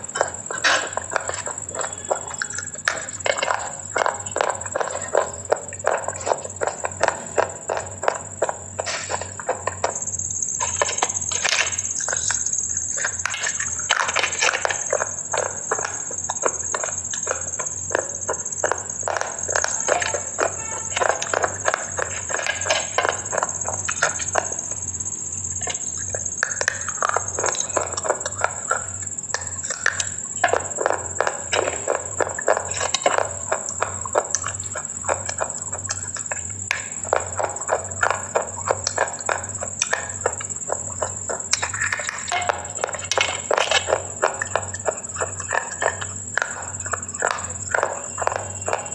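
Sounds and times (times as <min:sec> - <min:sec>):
crunching and chewing clay: 0:00.0 - 0:48.9.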